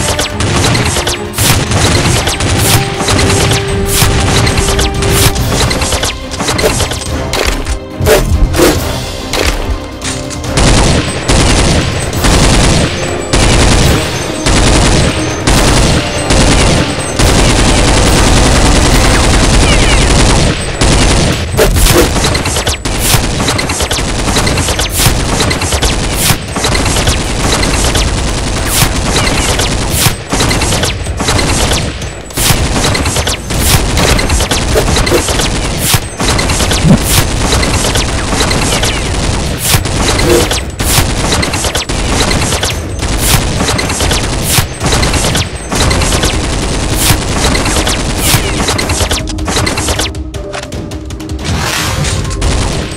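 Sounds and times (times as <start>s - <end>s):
automatic gunfire sound effects: 0.0s - 9.6s, 10.4s - 50.2s.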